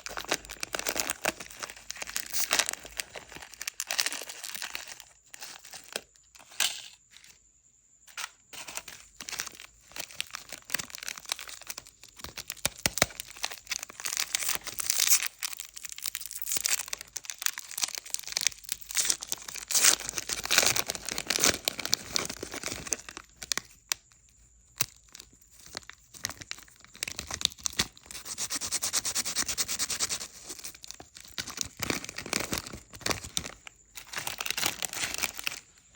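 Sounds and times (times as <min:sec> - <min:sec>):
plastic wrappers crinkling and tearing: 0:00.0 - 0:06.1, 0:08.6 - 0:24.0, 0:24.7 - 0:28.1, 0:30.5 - 0:35.8.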